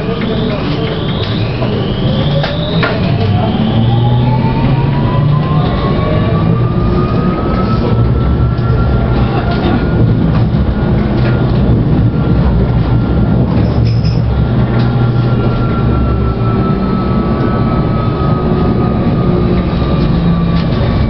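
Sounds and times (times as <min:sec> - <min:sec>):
tram wheels rumbling on rail: 0:00.0 - 0:21.0.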